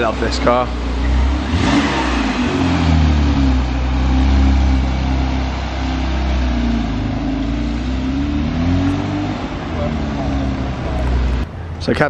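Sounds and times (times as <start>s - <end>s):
car engine and exhaust pulling away: 0.0s - 12.0s.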